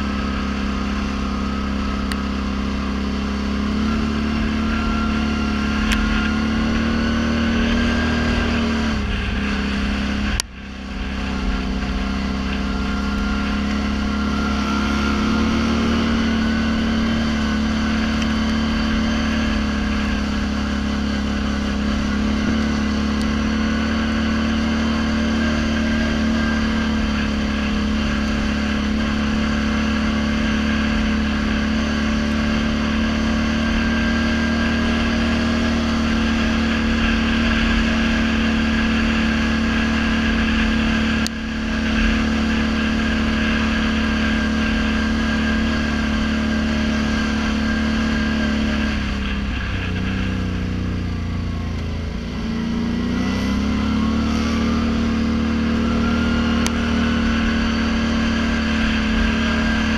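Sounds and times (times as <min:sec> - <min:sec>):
atv engine droning: 0:00.0 - 0:59.9.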